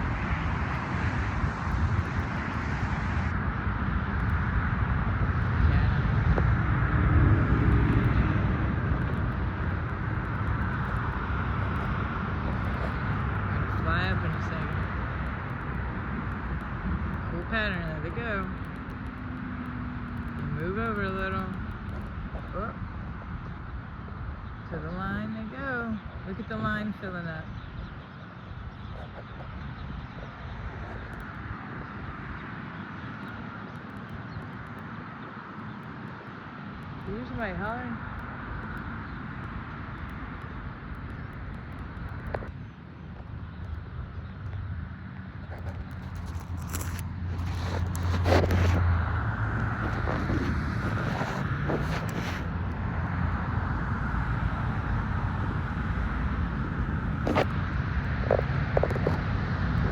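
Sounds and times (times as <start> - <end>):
low rumble: 0.0 - 27.9, 36.8 - 59.9.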